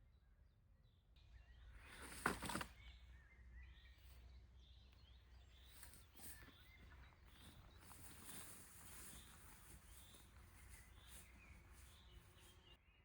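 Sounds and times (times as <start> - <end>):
faint bird chirps: 1.2 - 13.0.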